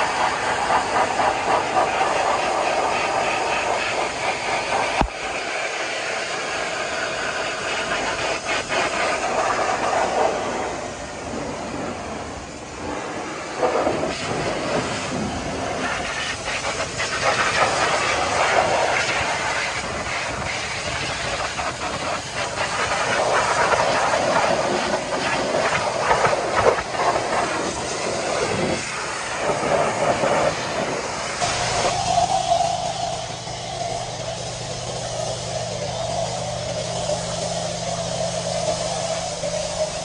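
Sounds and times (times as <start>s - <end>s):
pressure washer spray hissing: 0.0s - 40.0s.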